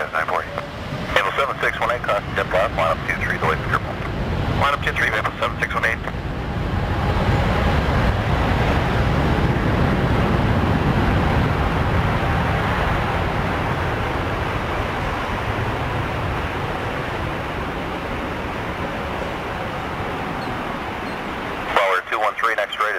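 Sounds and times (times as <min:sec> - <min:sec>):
jet airliner engine rumble: 0:00.0 - 0:22.9.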